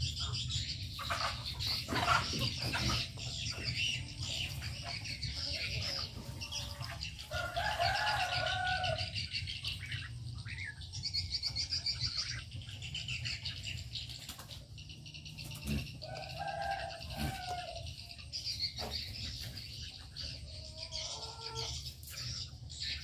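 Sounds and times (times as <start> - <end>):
many birds chirping: 0.0 - 23.0.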